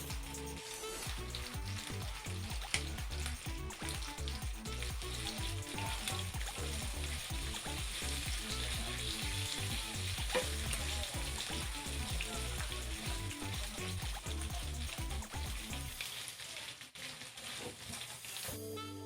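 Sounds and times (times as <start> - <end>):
background music with bassline: 0.0 - 16.0
pork sizzling on grill: 0.0 - 19.0.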